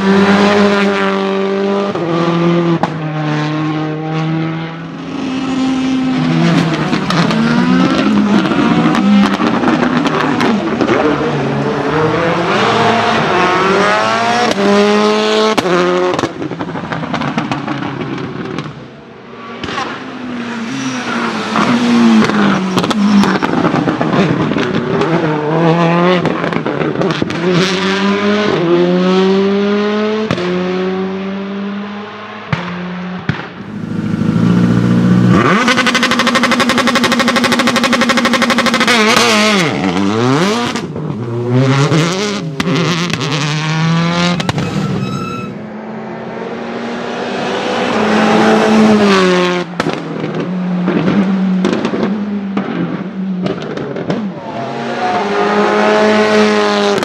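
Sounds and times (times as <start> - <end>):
rally car engine accelerating: 0.0 - 18.8, 19.4 - 57.0.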